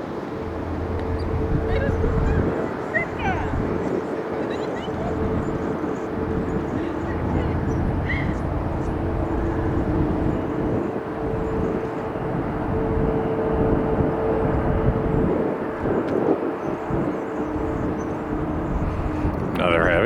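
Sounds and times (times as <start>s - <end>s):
jet engines rumbling and whining: 0.0s - 20.0s
wind noise on microphone: 0.0s - 20.0s.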